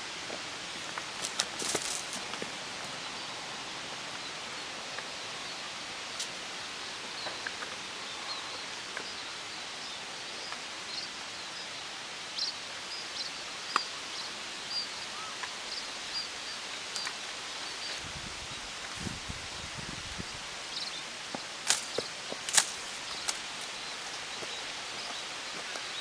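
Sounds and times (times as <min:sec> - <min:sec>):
steady forest hiss: 0:00.0 - 0:26.0.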